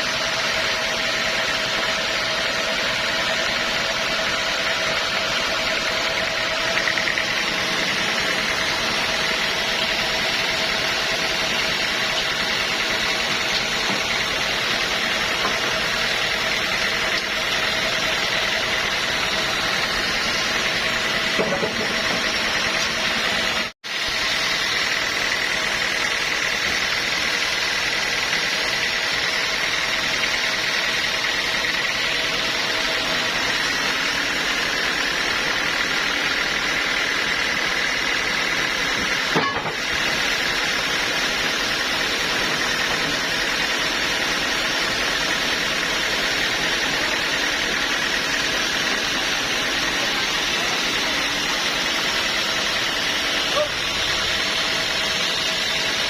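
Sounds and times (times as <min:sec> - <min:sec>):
high mechanical whine: 0:00.0 - 0:56.0
sawmill machinery running: 0:00.0 - 0:56.0.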